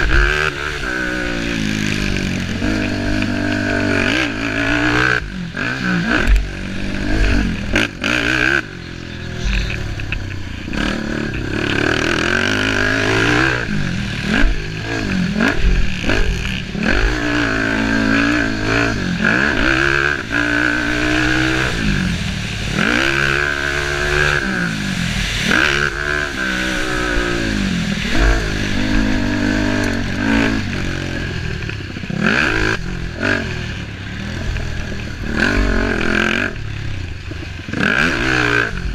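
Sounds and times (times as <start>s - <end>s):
racing engine revving: 0.0s - 38.9s.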